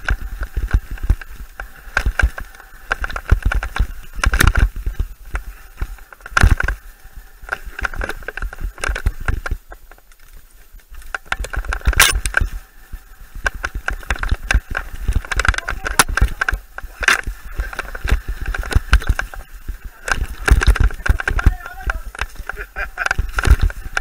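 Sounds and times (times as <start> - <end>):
mountain bike rattling over bumps: 0.0 - 24.0.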